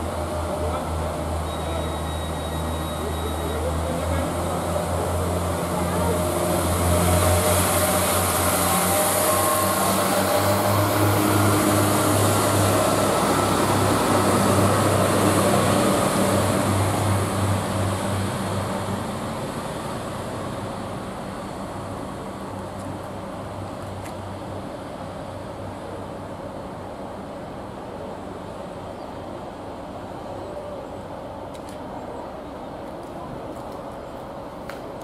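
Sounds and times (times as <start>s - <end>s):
diesel railbus engine running: 0.0s - 35.0s.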